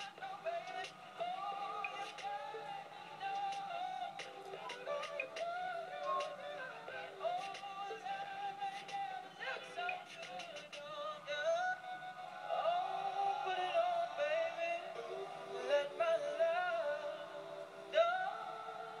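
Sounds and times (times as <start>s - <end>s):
sing-song vocal melody: 0.0s - 19.0s.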